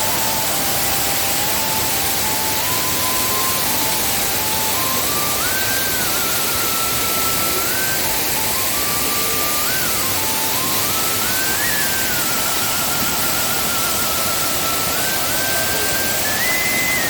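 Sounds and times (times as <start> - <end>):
simple background melody: 0.0 - 17.0
waterfall rushing: 0.0 - 17.0.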